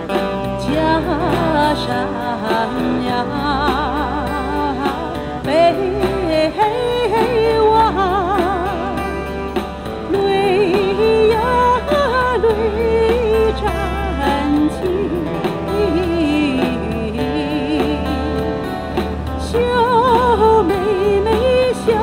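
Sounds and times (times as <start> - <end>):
acoustic guitar: 0.0 - 22.0
woman singing with vibrato: 0.0 - 22.0.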